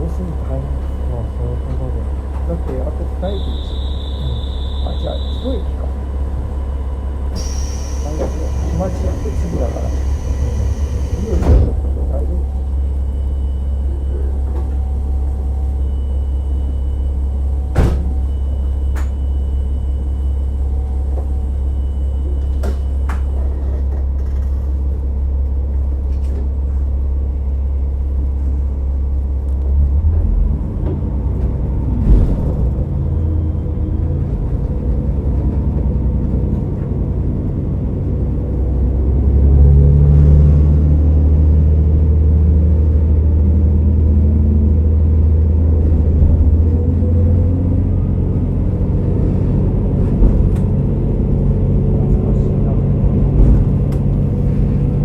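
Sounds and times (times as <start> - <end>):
train engine and track rumble: 0.0 - 55.0.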